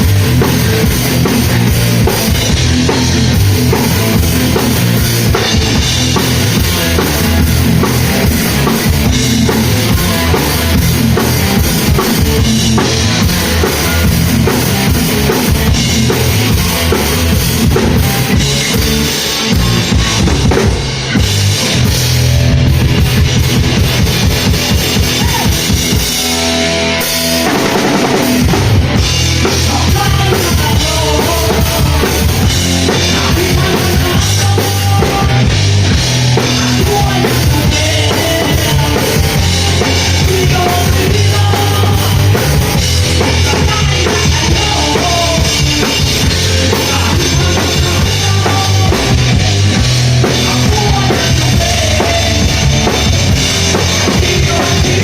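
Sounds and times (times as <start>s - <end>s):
drum kit and bass beat: 0.0s - 55.0s
rock band playing live: 0.0s - 55.0s.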